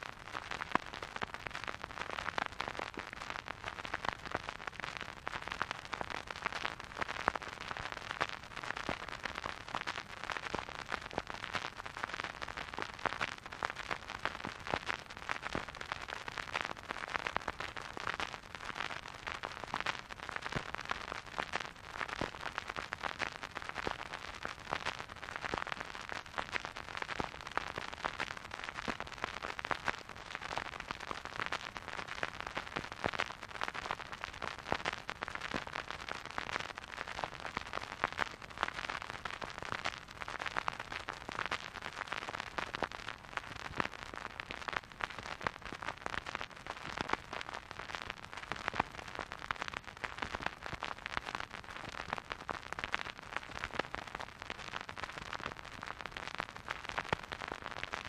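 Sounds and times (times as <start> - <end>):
record surface hiss with crackles: 0.0 - 58.0.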